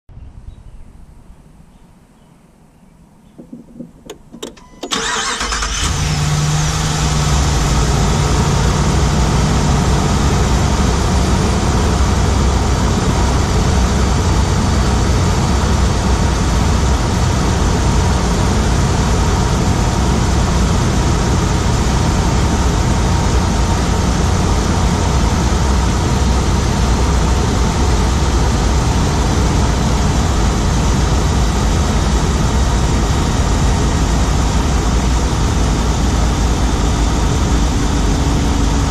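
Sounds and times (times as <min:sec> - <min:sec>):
car engine starting and running: 0:03.4 - 0:38.9
engine ticking: 0:03.4 - 0:38.9.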